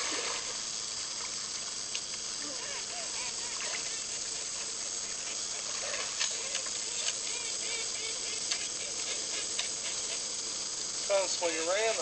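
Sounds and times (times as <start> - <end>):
videotape hiss: 0.0 - 12.0.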